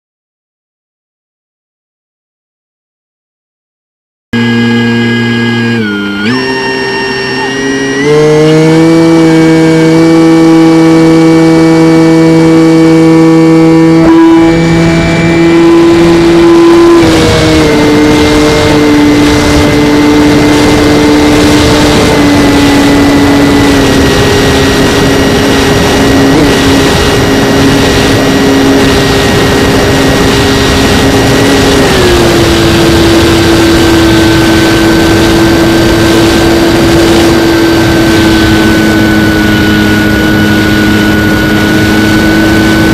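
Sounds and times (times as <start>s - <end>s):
motor and propeller whine: 4.4s - 42.9s
rushing wind noise: 7.6s - 42.9s.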